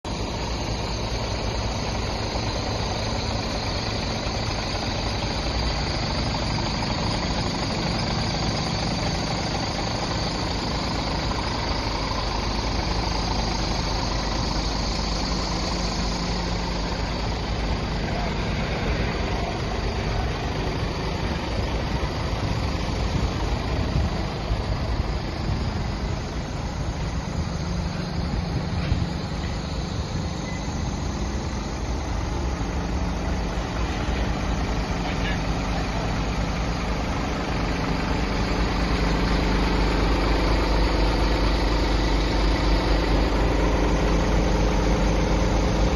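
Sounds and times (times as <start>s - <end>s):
diesel truck engine idling: 0.0s - 45.9s.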